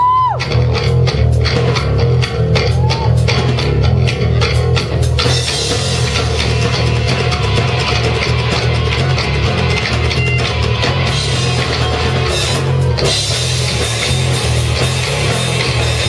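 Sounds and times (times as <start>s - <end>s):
bass guitar: 0.0s - 16.0s
distorted electric guitar: 0.0s - 16.0s
drum hits: 1.4s - 16.0s.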